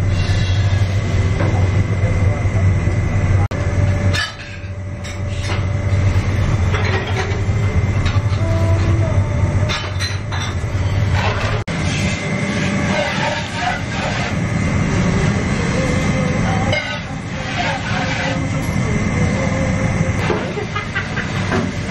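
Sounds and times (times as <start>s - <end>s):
oven and fan machinery rumble: 0.0s - 21.9s.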